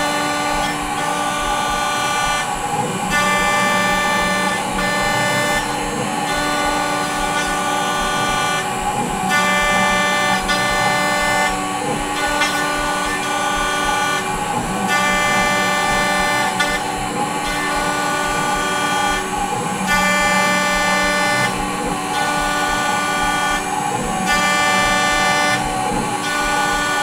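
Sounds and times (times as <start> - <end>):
mill motor whine: 0.0 - 27.0.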